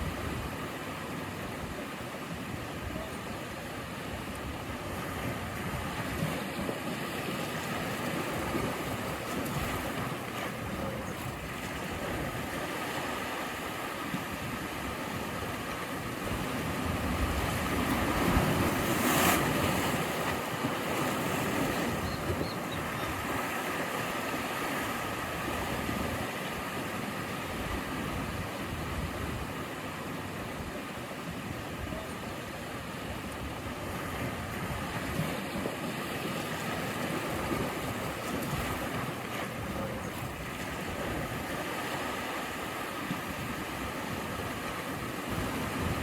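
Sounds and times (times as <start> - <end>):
sea surf washing on shore: 0.0 - 46.0.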